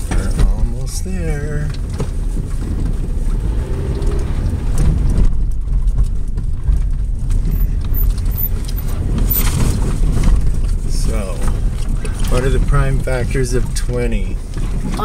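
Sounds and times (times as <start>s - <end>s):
car body and loose items rattling: 0.0s - 15.0s
vehicle engine and tyres rumbling: 0.0s - 15.0s.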